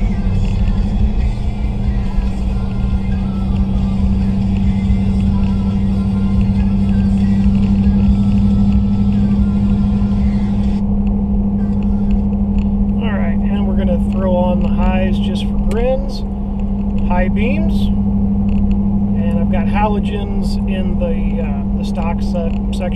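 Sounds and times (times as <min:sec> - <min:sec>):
music from car stereo: 0:00.0 - 0:17.9, 0:19.0 - 0:22.9
truck engine and road drone: 0:00.0 - 0:22.9.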